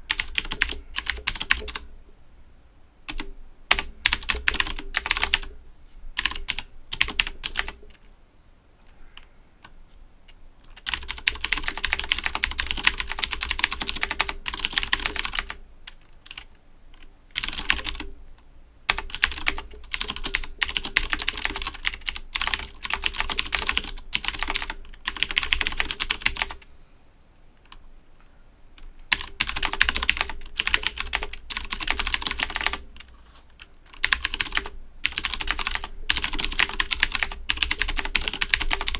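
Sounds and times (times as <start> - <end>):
clicky mechanical keyboard typing: 0.1 - 1.9, 3.1 - 5.6, 6.2 - 8.1, 9.2 - 18.1, 18.9 - 26.7, 28.8 - 38.9.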